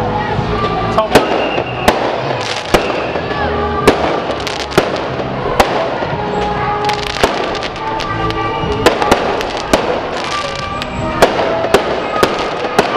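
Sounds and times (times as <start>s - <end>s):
music playing: 0.0s - 12.9s
fireworks bangs: 1.0s - 12.9s.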